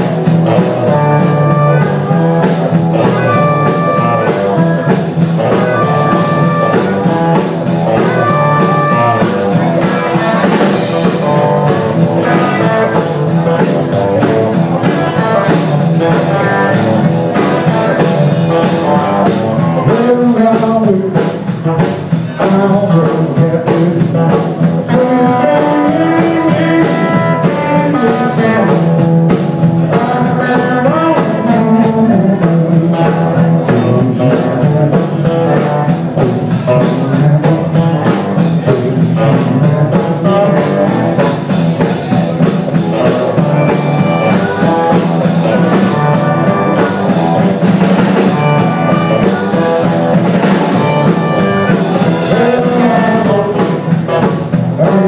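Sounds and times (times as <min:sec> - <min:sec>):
drum kit: 0:00.0 - 0:55.0
electric bass guitar: 0:00.0 - 0:55.0
electric guitar: 0:00.0 - 0:55.0.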